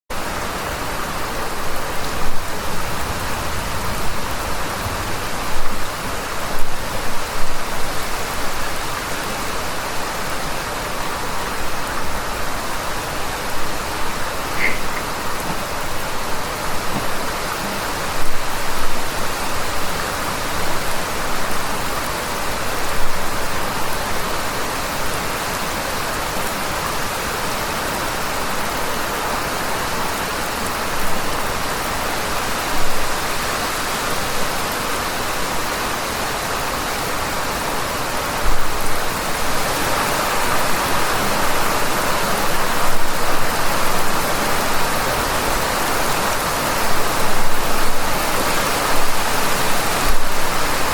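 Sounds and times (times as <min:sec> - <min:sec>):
heavy rain falling: 0:00.1 - 0:50.9
rain splashes: 0:00.1 - 0:50.9.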